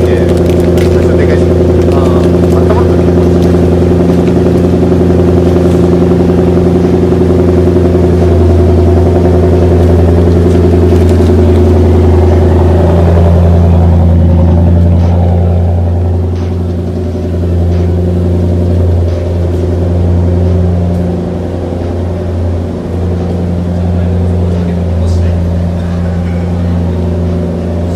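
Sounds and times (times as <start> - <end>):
car exhaust idling: 0.0 - 27.9.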